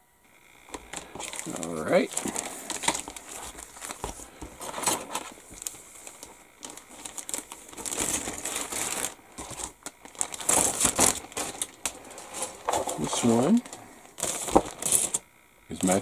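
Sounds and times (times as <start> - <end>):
plastic bag crinkling: 0.7 - 16.0.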